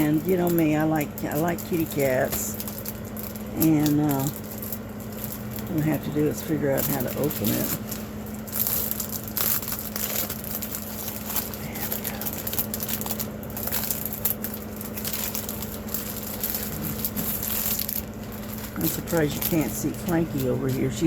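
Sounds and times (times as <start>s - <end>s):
low steady hum: 0.0s - 21.0s
plastic packaging crinkling: 0.0s - 21.0s.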